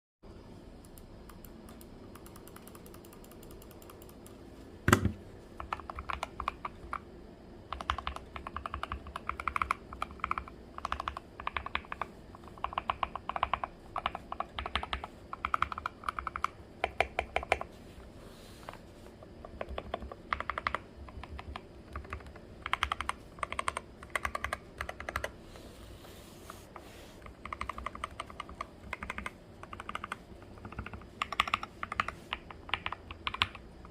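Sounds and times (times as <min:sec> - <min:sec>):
mechanical keyboard typing: 0:00.9 - 0:07.0, 0:07.7 - 0:17.7, 0:19.4 - 0:25.4, 0:27.2 - 0:33.9.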